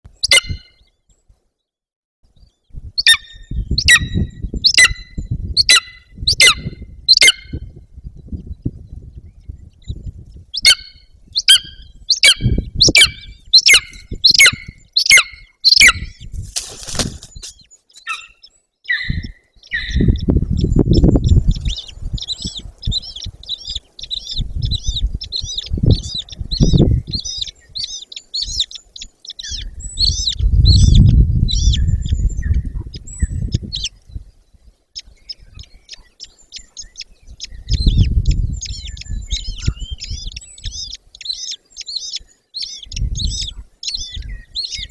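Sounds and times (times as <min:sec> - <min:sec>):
eagle chicks cheeping: 0:00.2 - 0:01.0, 0:02.4 - 0:16.4, 0:17.1 - 0:44.9.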